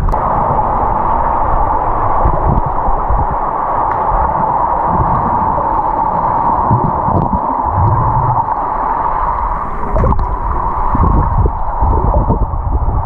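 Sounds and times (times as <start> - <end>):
muffled underwater hiss: 0.0 - 13.0
water swishing around microphone: 0.0 - 13.0.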